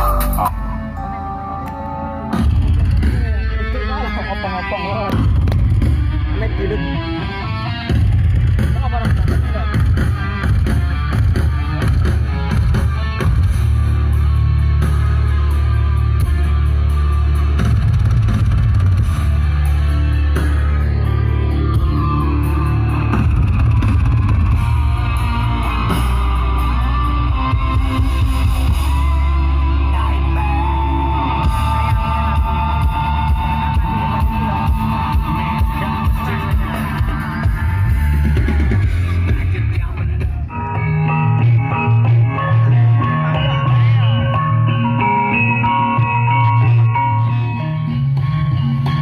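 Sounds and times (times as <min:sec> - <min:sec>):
loud bass-heavy music on speakers: 0:00.0 - 0:49.0.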